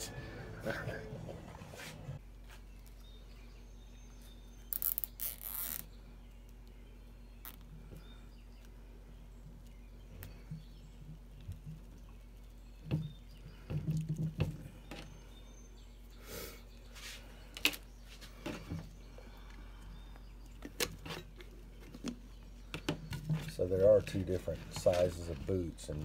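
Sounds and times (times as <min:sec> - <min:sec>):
steady low hum: 0:00.0 - 0:05.0, 0:05.8 - 0:26.0.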